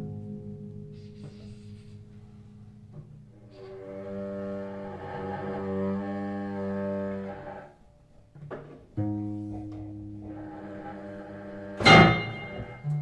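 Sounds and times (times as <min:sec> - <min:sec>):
cello bowed low notes: 0:00.0 - 0:13.0.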